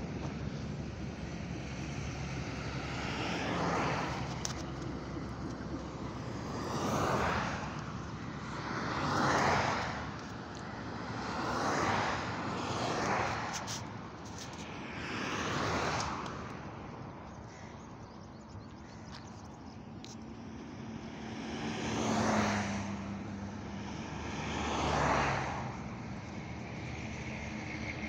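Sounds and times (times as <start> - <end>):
low road rumble: 0.0 - 28.0
vehicles passing: 0.0 - 28.0.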